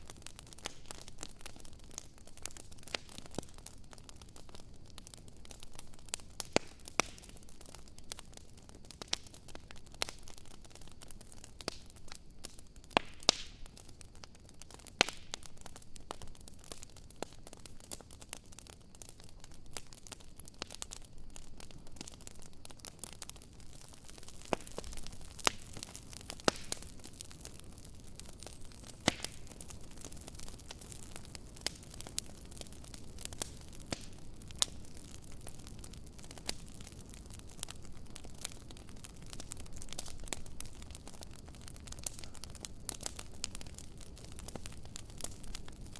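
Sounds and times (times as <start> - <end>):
campfire pops and snaps: 0.0 - 45.9
steady hiss of burning: 0.0 - 45.9.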